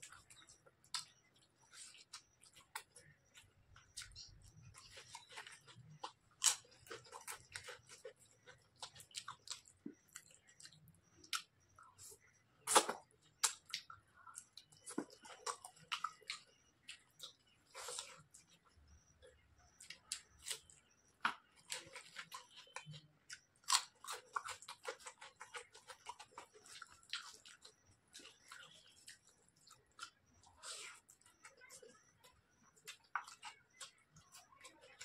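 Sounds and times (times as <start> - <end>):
chewing crunchy chips: 0.0 - 35.0.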